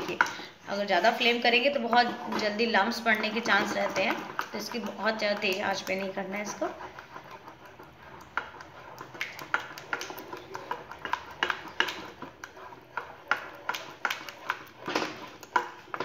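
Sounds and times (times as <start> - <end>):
spatula scraping saucepan: 0.0 - 16.0.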